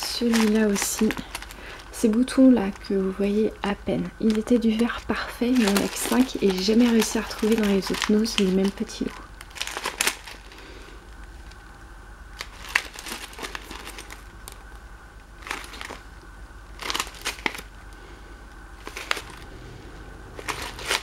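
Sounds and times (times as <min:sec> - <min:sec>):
plastic bag crinkling: 0:00.0 - 0:11.7, 0:12.3 - 0:18.1, 0:18.8 - 0:21.0.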